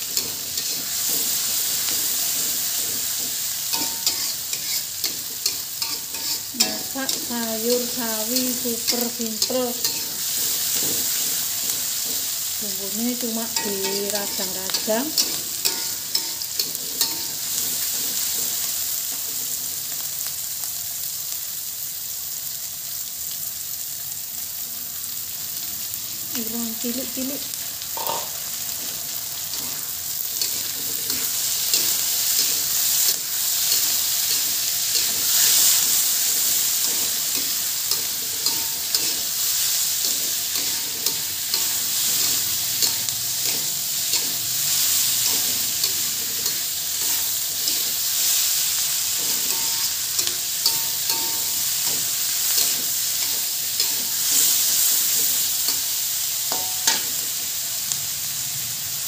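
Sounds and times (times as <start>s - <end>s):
metal spatula scraping a wok: 0.0s - 12.5s, 13.1s - 19.2s, 28.0s - 57.4s
food sizzling in hot oil: 0.0s - 59.0s.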